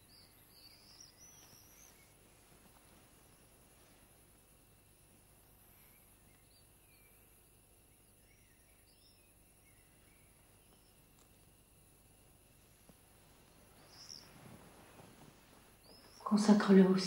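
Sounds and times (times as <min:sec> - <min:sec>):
faint background hiss: 0:00.0 - 0:17.0
soft bird chirps: 0:00.0 - 0:17.0.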